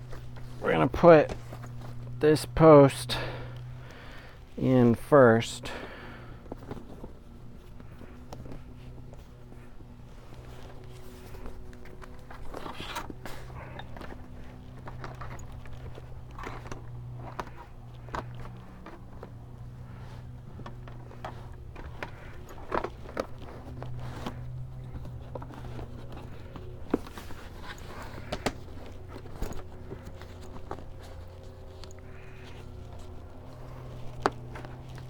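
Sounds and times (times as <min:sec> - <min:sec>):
upholstery rustling and scraping: 0:00.0 - 0:02.9, 0:03.5 - 0:35.0
steady low hum: 0:00.0 - 0:35.0.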